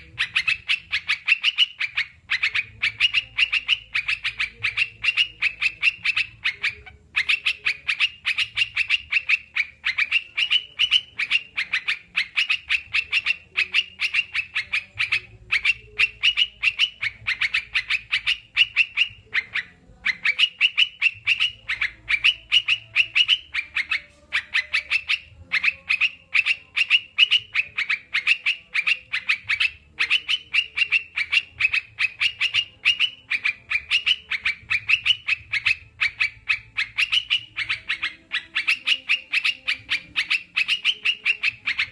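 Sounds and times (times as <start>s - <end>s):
bird chattering: 0.0s - 41.9s.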